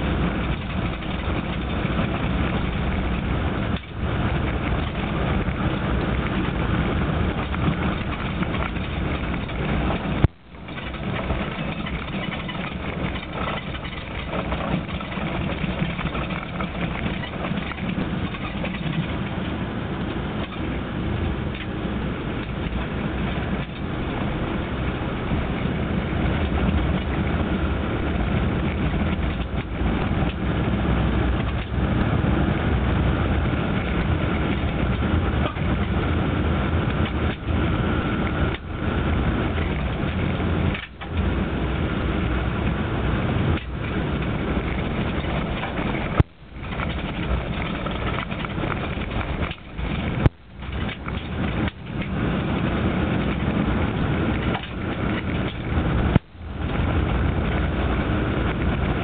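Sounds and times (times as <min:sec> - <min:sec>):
tyres on gravel: 0:00.0 - 0:27.4, 0:38.3 - 0:59.0
vehicle engine rumble: 0:00.0 - 0:59.0.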